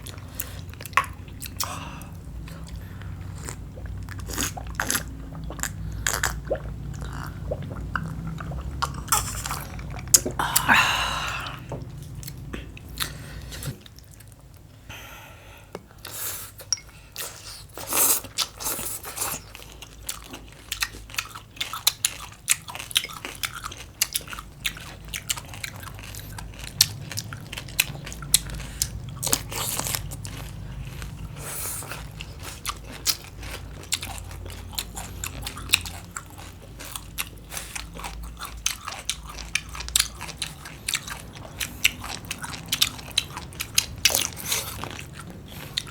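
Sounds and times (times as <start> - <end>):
crunchy chewing: 0.0 - 10.6, 17.2 - 45.9.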